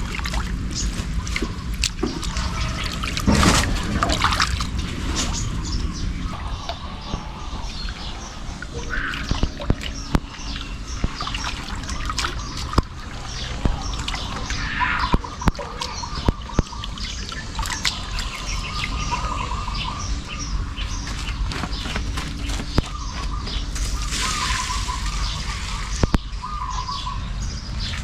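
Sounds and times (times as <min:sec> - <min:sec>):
running water: 0:00.0 - 0:19.9, 0:23.8 - 0:26.5
small birds chirping: 0:00.0 - 0:28.0.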